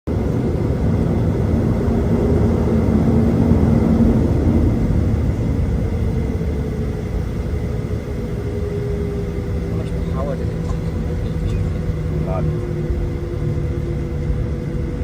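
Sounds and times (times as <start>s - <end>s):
airplane engines rumbling: 0.1s - 15.0s.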